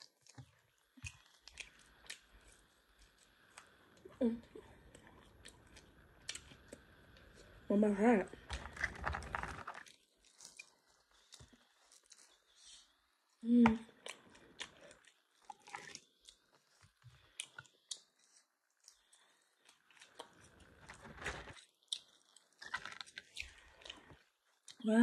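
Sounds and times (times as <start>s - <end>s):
person chewing crunchy food: 0.0s - 4.0s, 4.8s - 7.7s, 8.4s - 24.8s.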